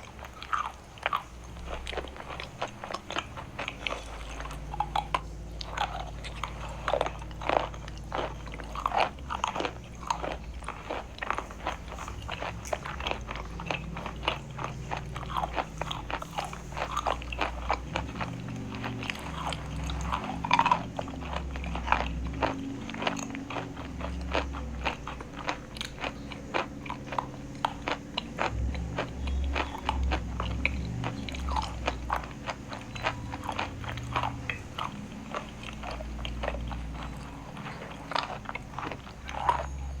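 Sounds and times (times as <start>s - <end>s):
chalk being chewed: 0.0s - 40.0s.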